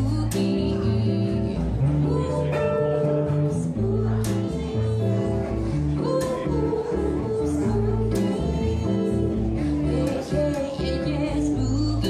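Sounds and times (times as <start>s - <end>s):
electric guitar: 0.0s - 12.0s
plucked double bass: 0.0s - 12.0s
woman singing into microphone: 0.0s - 12.0s.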